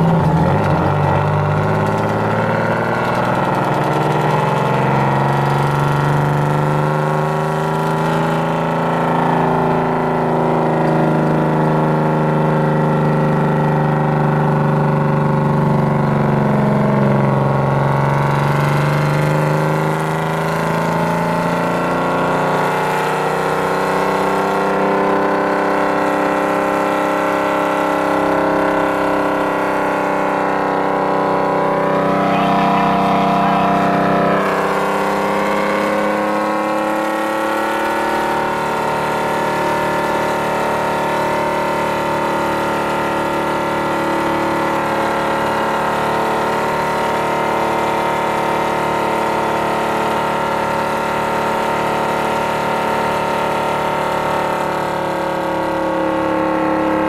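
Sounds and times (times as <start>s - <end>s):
truck engine drone under load: 0.0s - 57.0s.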